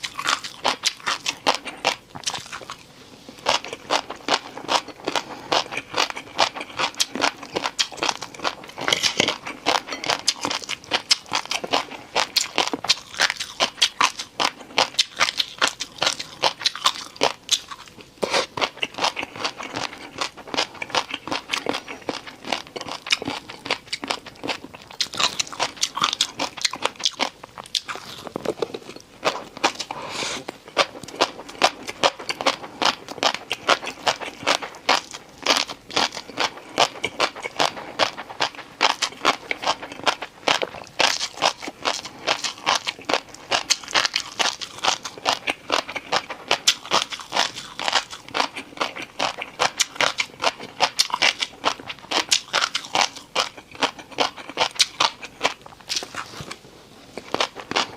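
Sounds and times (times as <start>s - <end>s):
person crunching food: 0.0s - 57.9s.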